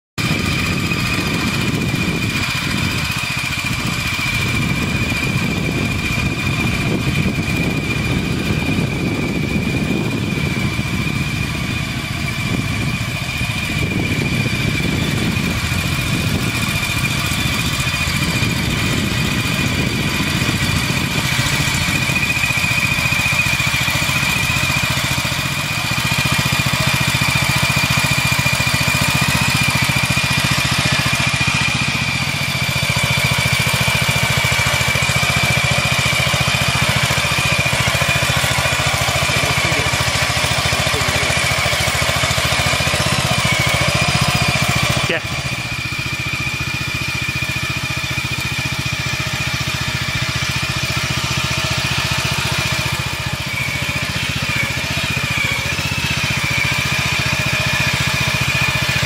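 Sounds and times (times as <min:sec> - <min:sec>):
tractor engine running: 0:00.2 - 0:59.0.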